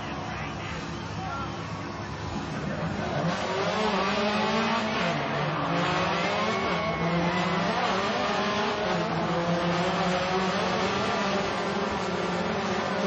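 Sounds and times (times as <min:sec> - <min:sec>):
rally car engine revving: 0:00.0 - 0:13.0
steady noisy background: 0:00.0 - 0:13.0.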